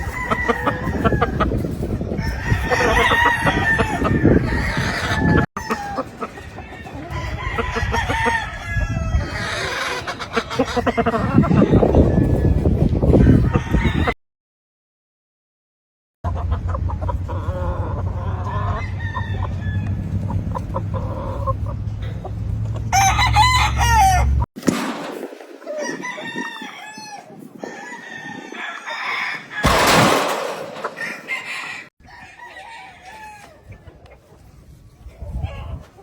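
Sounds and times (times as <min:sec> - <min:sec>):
chickens clucking: 0:00.0 - 0:14.2, 0:16.3 - 0:36.0
roosters crowing: 0:00.0 - 0:14.2, 0:17.3 - 0:24.5, 0:25.7 - 0:33.9.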